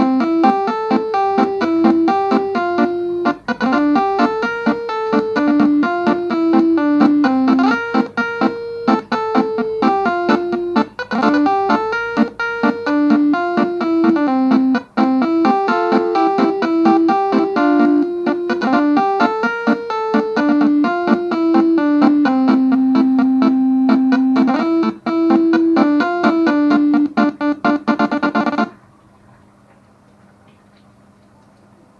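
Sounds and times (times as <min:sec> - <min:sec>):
electric piano melody: 0:00.0 - 0:28.8.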